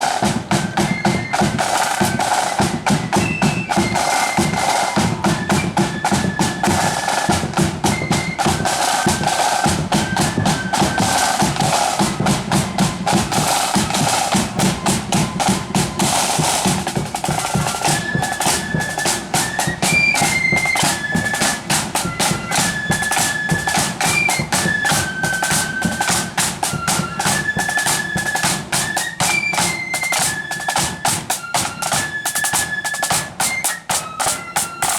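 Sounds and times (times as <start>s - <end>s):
marching band melody: 0.0s - 34.9s
rapid snare drumming: 0.0s - 34.9s.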